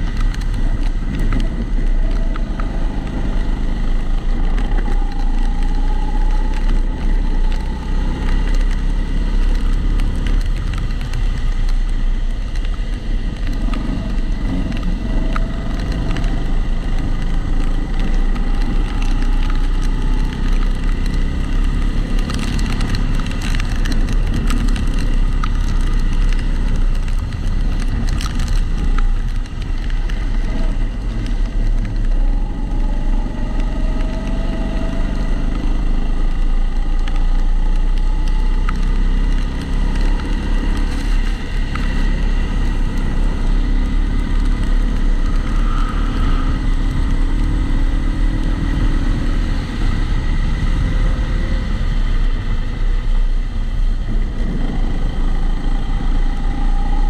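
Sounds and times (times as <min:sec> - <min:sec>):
kart engine driving at speed: 0:00.0 - 0:57.0.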